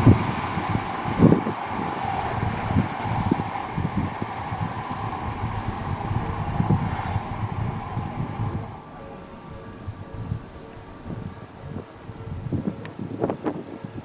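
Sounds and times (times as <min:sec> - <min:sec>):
high insect buzz: 0:00.0 - 0:14.0
wind rumbling on microphone: 0:00.0 - 0:14.0.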